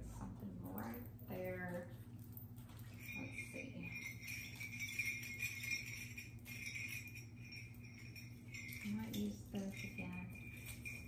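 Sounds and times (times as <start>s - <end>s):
sleigh bells jingling: 1.3s - 11.0s.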